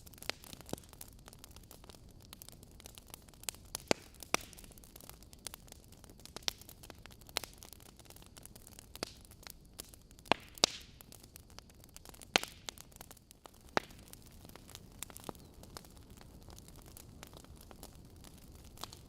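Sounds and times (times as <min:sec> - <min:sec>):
logs crackling in fireplace: 0:00.0 - 0:19.0.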